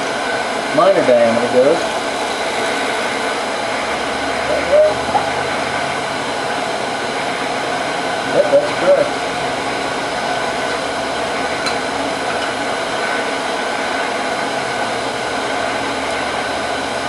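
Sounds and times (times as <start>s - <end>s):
wood lathe whirring: 1.3s - 17.0s.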